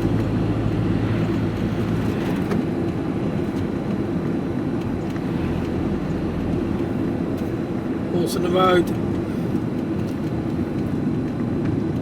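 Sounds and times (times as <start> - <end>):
diesel engine running: 0.0 - 12.0
road noise: 0.0 - 12.0.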